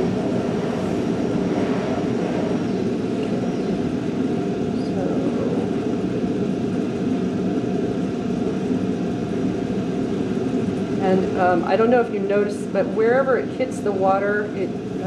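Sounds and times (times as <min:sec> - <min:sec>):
constant room rumble: 0:00.0 - 0:15.0.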